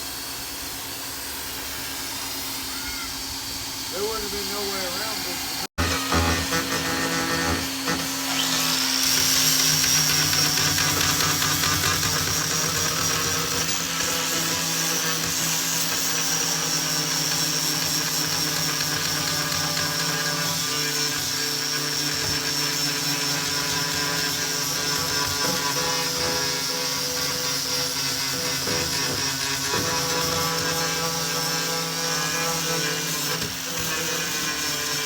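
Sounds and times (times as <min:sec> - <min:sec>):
power tool motor whining: 0:00.0 - 0:35.0.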